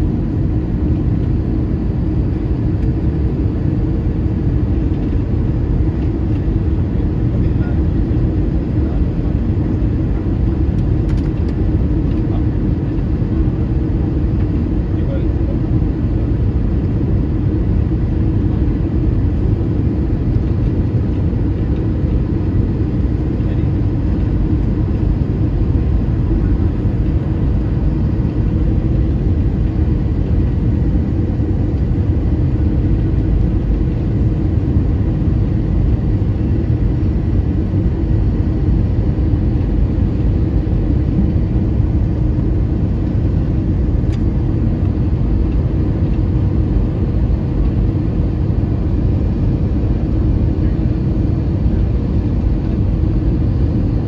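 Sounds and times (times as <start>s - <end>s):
jet engine and airflow rumble: 0.0s - 54.0s.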